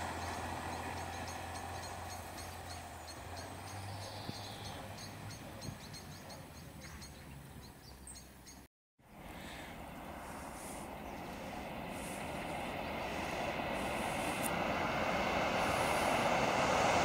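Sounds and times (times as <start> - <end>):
diesel railcar hum: 0.0 - 17.0.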